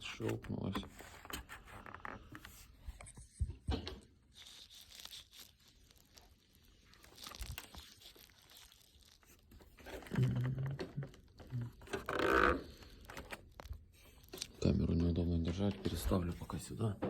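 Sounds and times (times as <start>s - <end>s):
plastic panel scraping and crackling: 0.0s - 17.0s.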